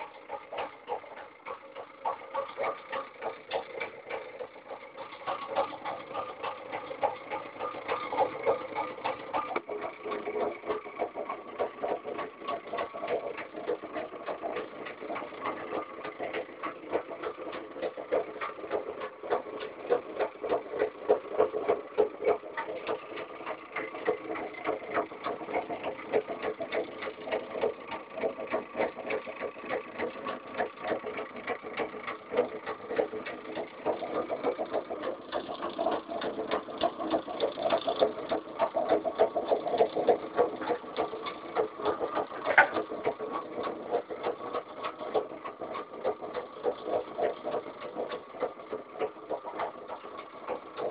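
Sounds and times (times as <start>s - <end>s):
small motor clicking: 0.0s - 50.9s.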